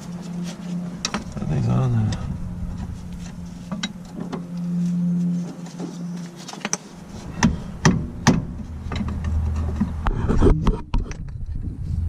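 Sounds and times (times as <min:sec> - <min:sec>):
short low hum: 0:00.0 - 0:12.0.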